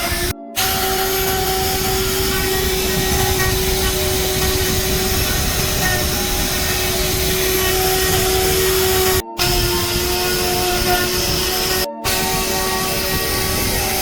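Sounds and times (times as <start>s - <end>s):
power tool running: 0.0s - 14.0s.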